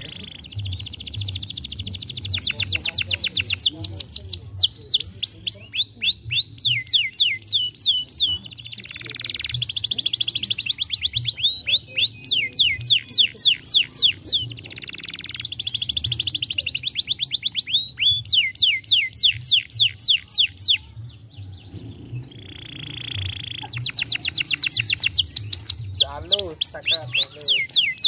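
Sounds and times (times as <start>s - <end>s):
canary rattling trill: 0.0s - 28.0s
canary singing: 0.0s - 28.0s.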